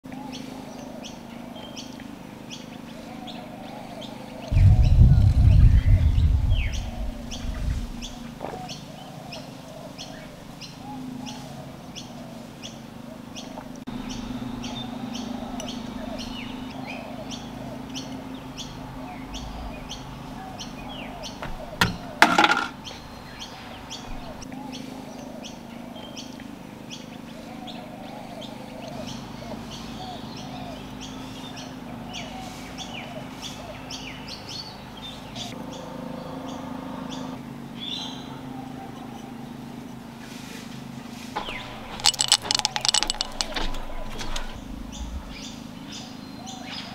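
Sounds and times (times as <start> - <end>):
small birds chirping: 0.0 - 46.9
low steady hum: 0.1 - 32.1, 40.9 - 46.9.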